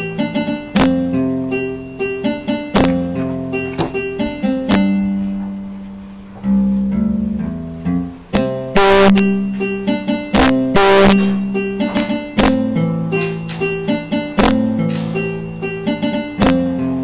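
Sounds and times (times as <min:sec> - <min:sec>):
electronic keyboard melody: 0:00.0 - 0:17.0.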